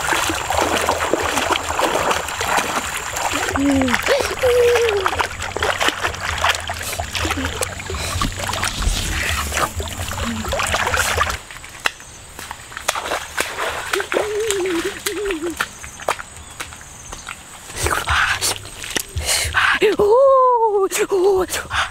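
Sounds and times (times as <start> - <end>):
water splashing and sloshing: 0.0 - 21.9.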